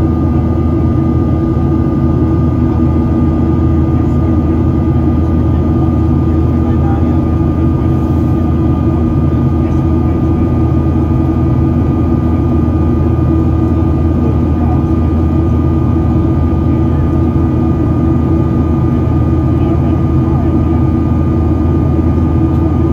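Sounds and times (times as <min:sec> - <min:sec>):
airplane cabin engine rumble: 0:00.0 - 0:22.9
thin steady whine: 0:00.0 - 0:22.9.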